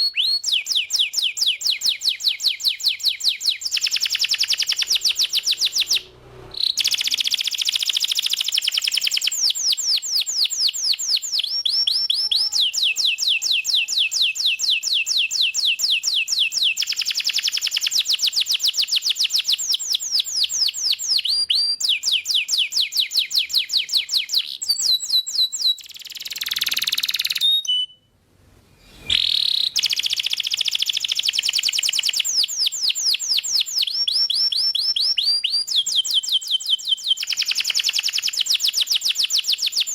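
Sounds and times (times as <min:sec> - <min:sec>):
canary singing trills: 0:00.0 - 0:28.1, 0:28.8 - 0:39.9.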